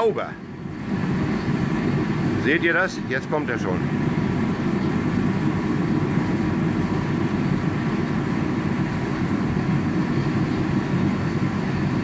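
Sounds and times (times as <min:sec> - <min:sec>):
heater fan and burner rushing: 0:00.0 - 0:12.0.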